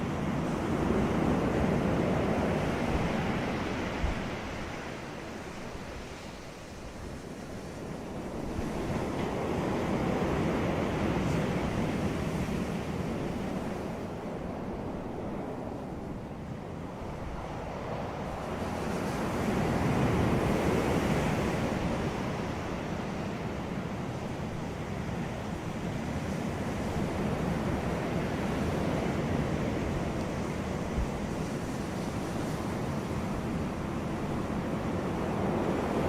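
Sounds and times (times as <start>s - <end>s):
ocean waves breaking on beach: 0.0s - 36.0s.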